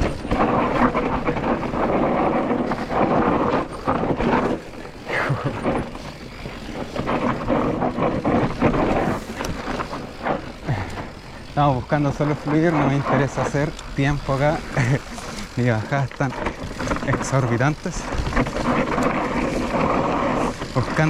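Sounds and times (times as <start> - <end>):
bike clattering over bumps: 0.0 - 21.0
tyres crunching on gravel: 0.0 - 21.0
wind buffeting microphone: 0.0 - 21.0.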